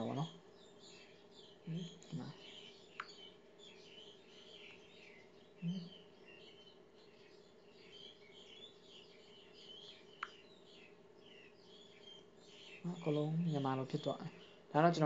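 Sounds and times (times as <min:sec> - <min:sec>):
faint bird chirping: 0:00.0 - 0:15.0
low steady hum: 0:00.0 - 0:15.0.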